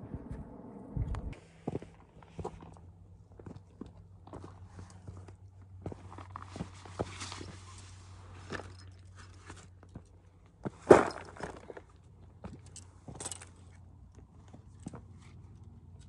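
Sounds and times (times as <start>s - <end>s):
gear clicks and scuffs: 1.6s - 16.0s.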